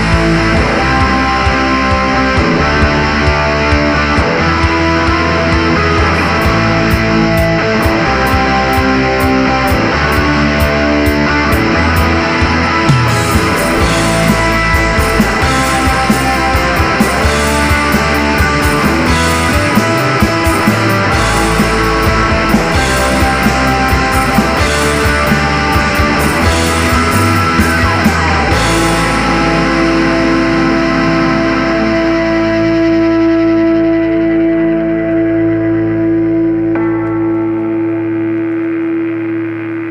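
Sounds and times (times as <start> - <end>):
held guitar chord ringing: 0.0 - 39.9
rock band playing: 0.0 - 39.9.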